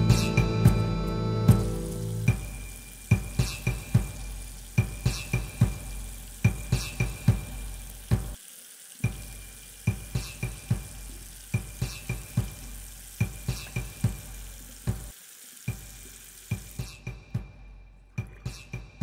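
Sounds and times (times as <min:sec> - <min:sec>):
running tap water hiss: 0:00.0 - 0:17.5.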